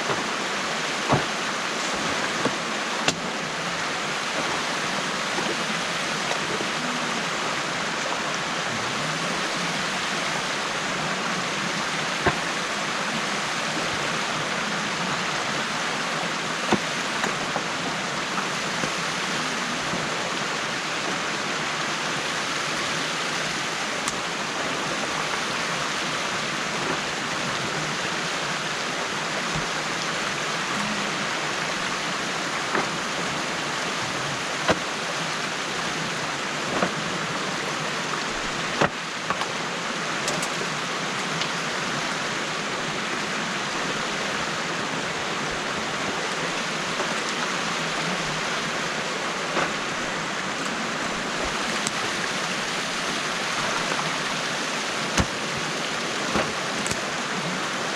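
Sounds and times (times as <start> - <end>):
stream water pouring: 0.0 - 57.9.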